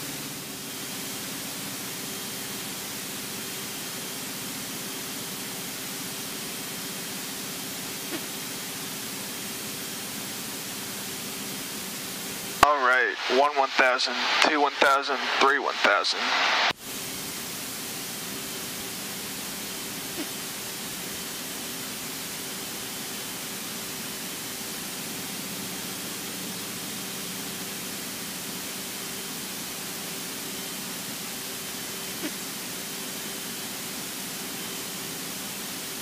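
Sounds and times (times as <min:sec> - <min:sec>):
faint steady hum: 0:00.0 - 0:36.0
steady cockpit hiss: 0:00.1 - 0:36.0.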